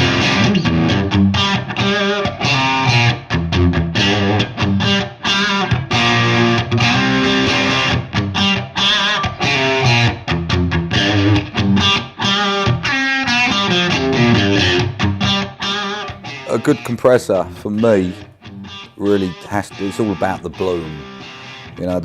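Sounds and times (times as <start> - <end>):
overdriven electric guitar: 0.0 - 22.0.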